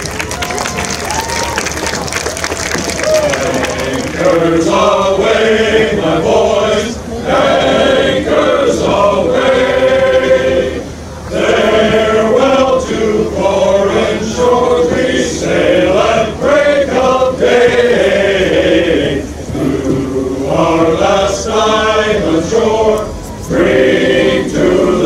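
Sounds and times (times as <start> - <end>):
men's chorus singing: 3.2 - 25.0.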